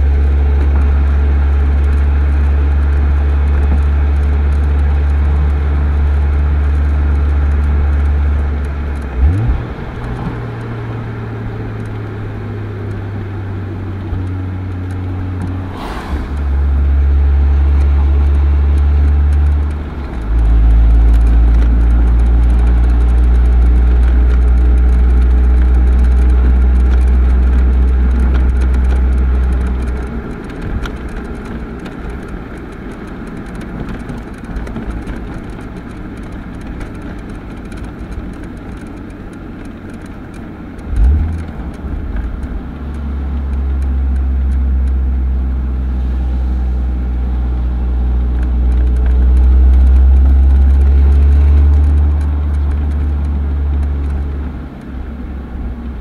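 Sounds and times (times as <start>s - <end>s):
car exhaust drone: 0.0s - 56.0s.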